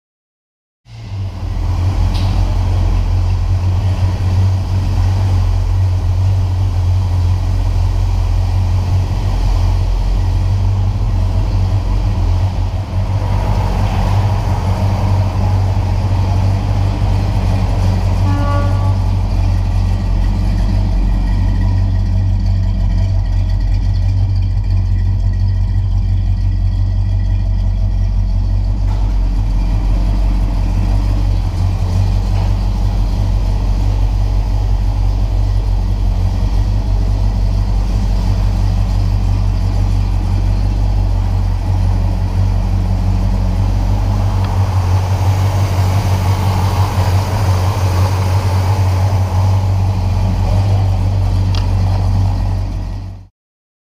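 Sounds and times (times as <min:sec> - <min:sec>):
car engine idling: 0:00.8 - 0:53.3.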